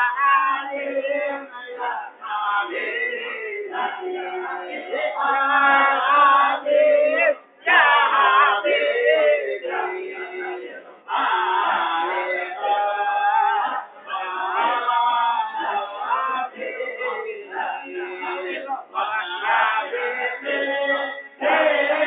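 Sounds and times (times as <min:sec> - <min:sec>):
men singing devotional song: 0:00.0 - 0:22.0.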